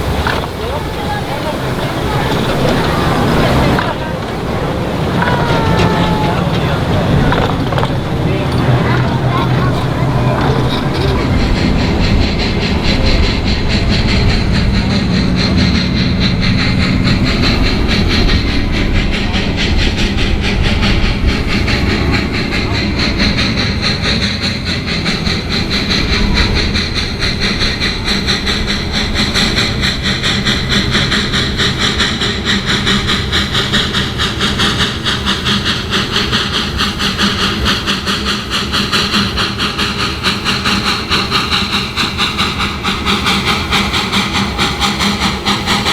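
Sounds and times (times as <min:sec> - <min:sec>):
small train clattering on track: 0:00.0 - 0:45.9
steam hissing: 0:00.0 - 0:45.9.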